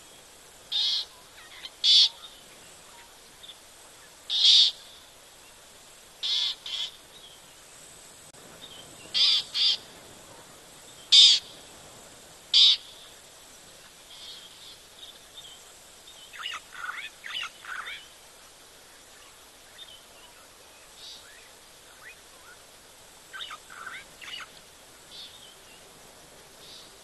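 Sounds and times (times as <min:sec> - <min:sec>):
faint background hiss: 0:00.0 - 0:27.0
wild birds chirping: 0:00.0 - 0:27.0.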